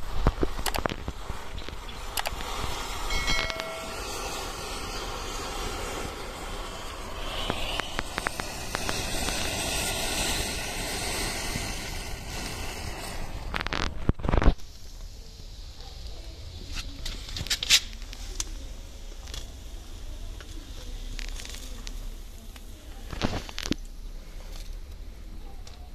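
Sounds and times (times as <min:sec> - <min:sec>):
fire crackling: 0:00.0 - 0:25.9
matches burning with hissing rush: 0:00.0 - 0:25.9.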